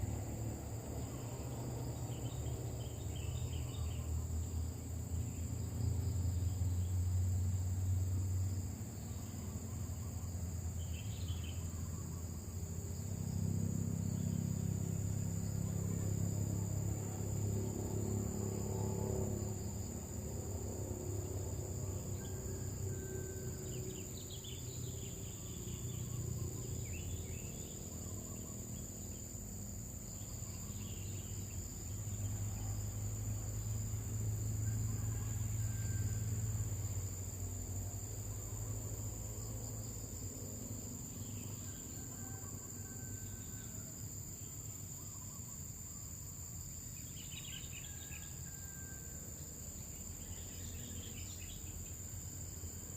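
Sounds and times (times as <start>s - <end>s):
crickets trilling: 0.0s - 52.9s.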